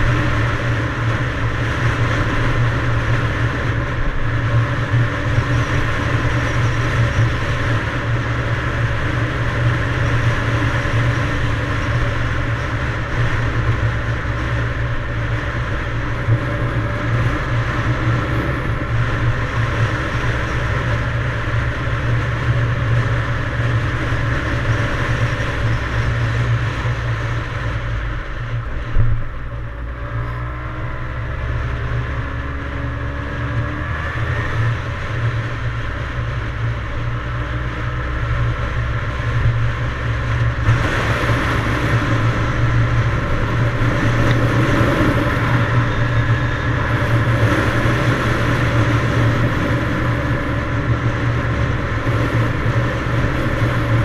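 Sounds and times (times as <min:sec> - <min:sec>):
dense rushing noise: 0:00.0 - 0:54.0
dirt bike engine running: 0:00.0 - 0:54.0.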